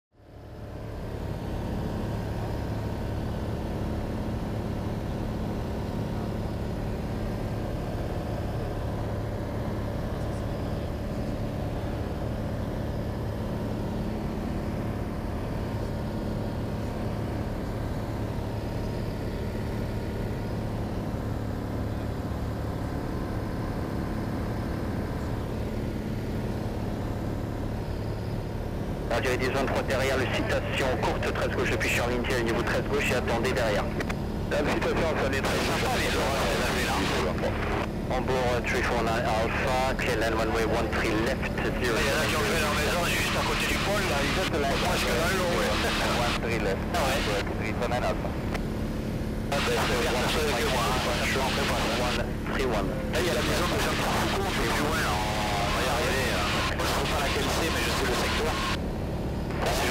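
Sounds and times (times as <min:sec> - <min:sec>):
propeller plane engine droning: 0:00.1 - 0:59.9.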